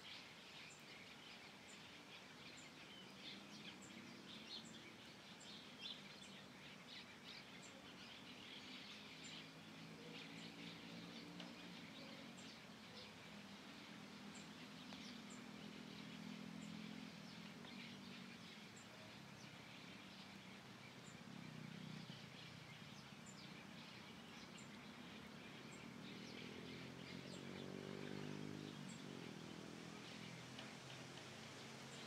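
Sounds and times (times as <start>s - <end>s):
birds twittering: 0.0s - 32.0s
distant engine hum: 0.8s - 32.0s.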